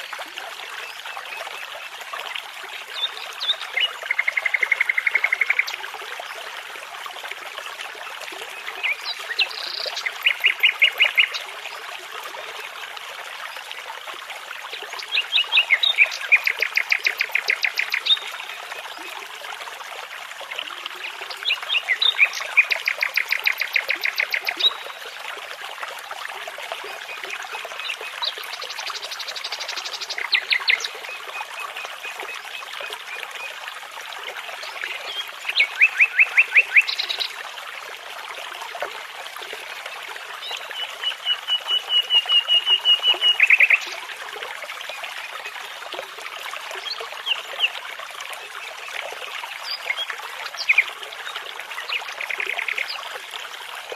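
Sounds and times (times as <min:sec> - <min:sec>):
babbling brook: 0:00.0 - 0:53.9.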